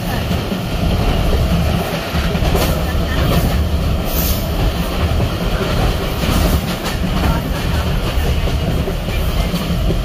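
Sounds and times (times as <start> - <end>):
train rumbling on track: 0.0 - 10.0
wheels clacking over rails: 0.0 - 10.0.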